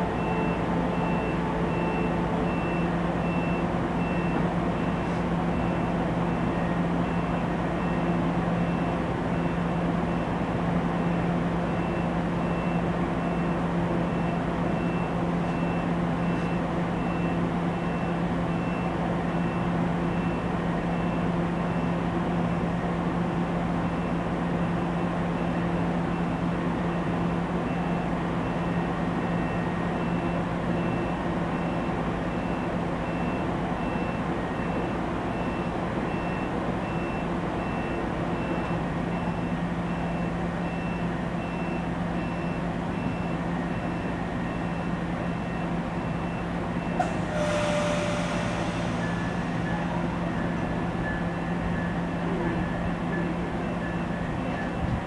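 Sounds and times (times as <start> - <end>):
train equipment humming: 0.0 - 55.0.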